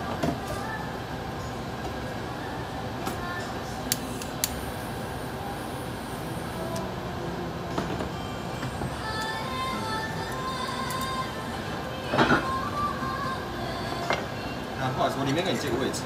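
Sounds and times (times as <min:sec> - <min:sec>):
faint music: 0:00.0 - 0:16.0
restaurant background noise: 0:00.0 - 0:16.0.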